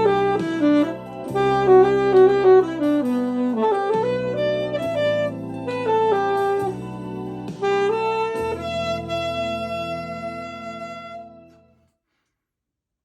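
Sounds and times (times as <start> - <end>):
sustained accompaniment chord: 0.0 - 11.8
smooth jazz saxophone: 0.0 - 11.9.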